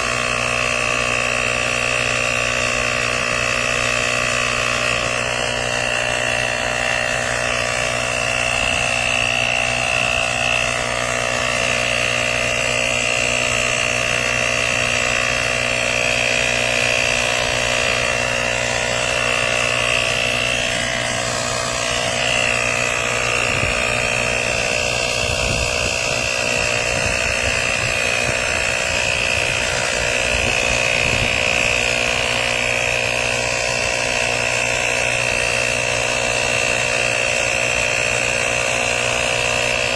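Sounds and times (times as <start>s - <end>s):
electric tire inflator running: 0.0s - 39.9s.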